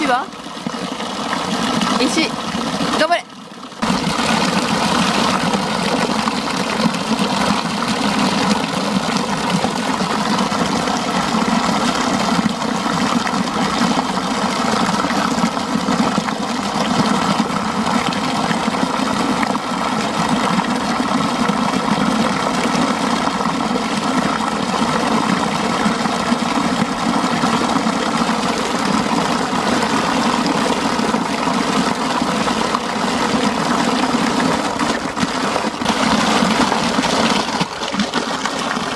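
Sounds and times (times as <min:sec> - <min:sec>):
water pouring into gutter: 0:00.0 - 0:38.9.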